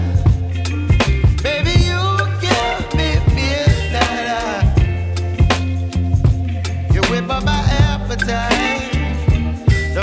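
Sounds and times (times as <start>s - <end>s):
pop music with singing: 0.0s - 10.0s.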